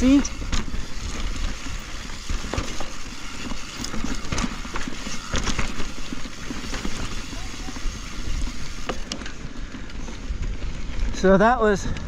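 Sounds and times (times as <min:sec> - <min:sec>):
bike knocking and rattling: 0:00.0 - 0:12.0
bike tyres crunching over rock: 0:00.0 - 0:12.0.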